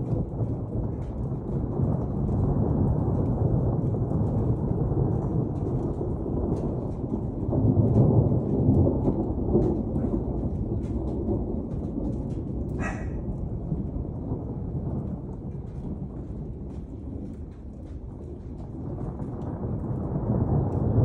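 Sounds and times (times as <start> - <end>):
raindrops ticking: 0.0 - 21.0
thunder rumbling low: 0.0 - 21.0.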